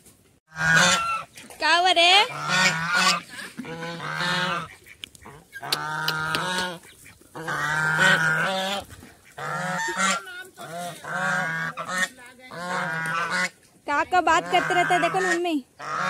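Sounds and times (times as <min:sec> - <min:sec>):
geese honking: 0:00.5 - 0:01.4, 0:02.0 - 0:16.0.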